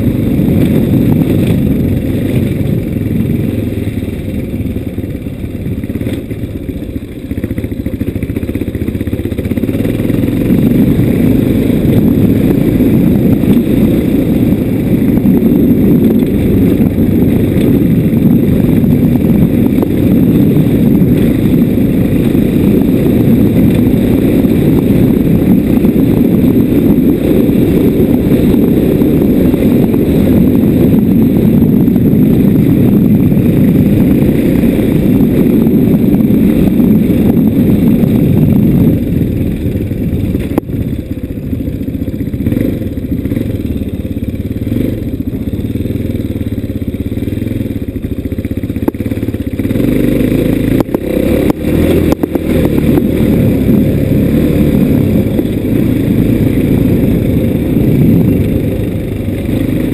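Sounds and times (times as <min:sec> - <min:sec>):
wind on microphone: 0:00.0 - 0:06.4, 0:09.0 - 0:59.9
vehicle running and jolting: 0:00.0 - 0:59.9.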